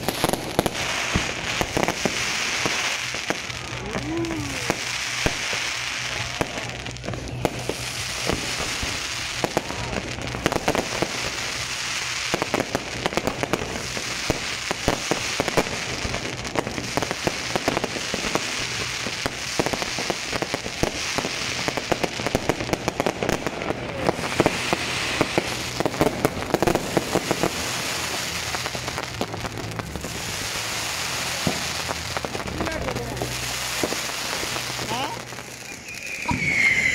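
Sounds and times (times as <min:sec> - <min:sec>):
fireworks bangs: 0:00.0 - 0:36.9
fireworks crackling: 0:00.0 - 0:36.9.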